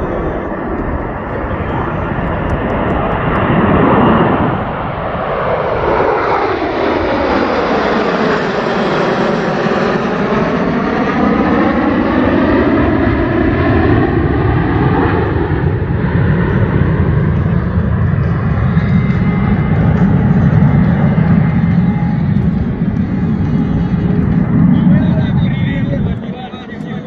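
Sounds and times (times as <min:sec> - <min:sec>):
jet fighters roaring past: 0:00.0 - 0:27.0.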